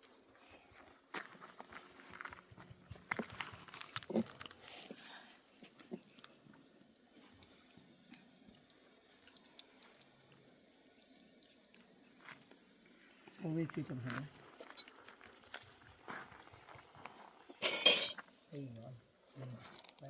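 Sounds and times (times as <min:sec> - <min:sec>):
insect trilling: 0:00.0 - 0:20.0.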